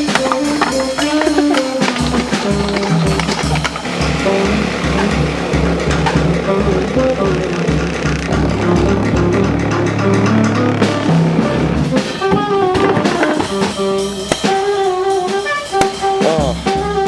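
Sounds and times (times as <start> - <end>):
instrumental jazz music: 0.0 - 17.0
melody of held repeated notes: 0.0 - 17.0.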